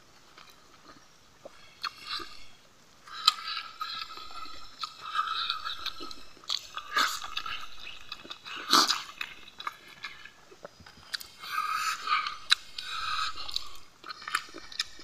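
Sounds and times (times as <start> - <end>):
man chewing food: 0.2 - 15.0.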